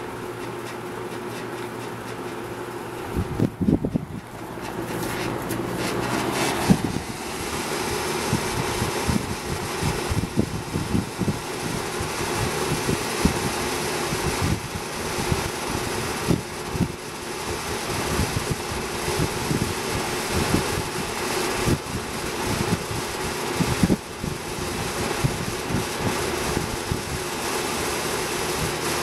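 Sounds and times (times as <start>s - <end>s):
box fan running: 0.0s - 29.0s.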